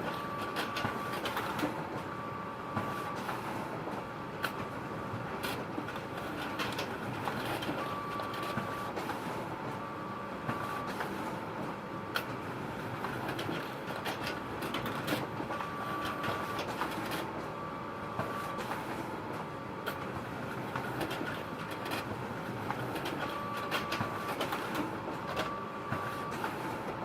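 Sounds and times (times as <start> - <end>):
photocopier whirring: 0.0 - 27.0.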